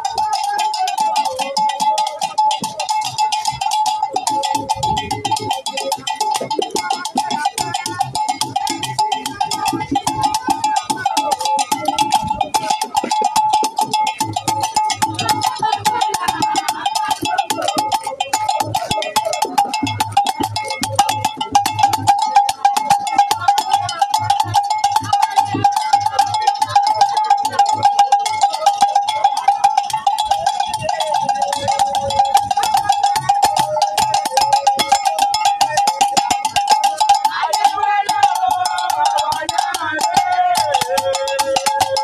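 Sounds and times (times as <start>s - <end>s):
voices singing: 0.0s - 21.4s, 22.2s - 42.0s
metal bell ringing rapidly: 0.0s - 42.0s.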